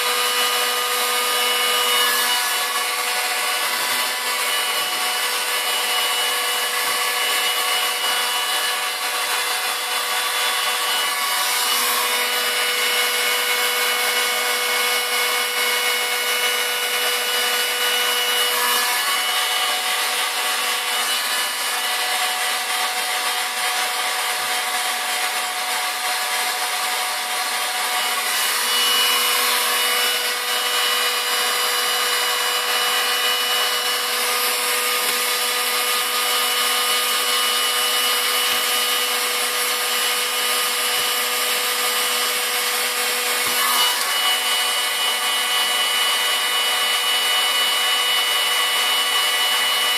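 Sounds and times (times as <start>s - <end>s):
heat gun blowing air: 0.0s - 49.9s.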